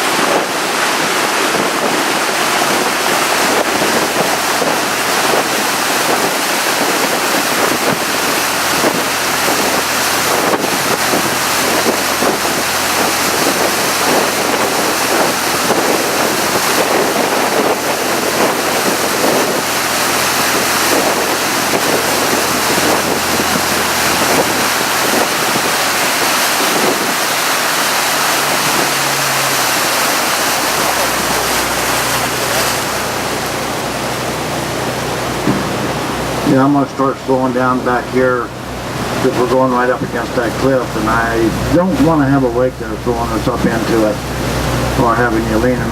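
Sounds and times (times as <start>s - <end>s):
low engine hum: 0.0s - 45.9s
water streaming past boat hull: 0.0s - 45.9s
wind on microphone: 0.0s - 45.9s.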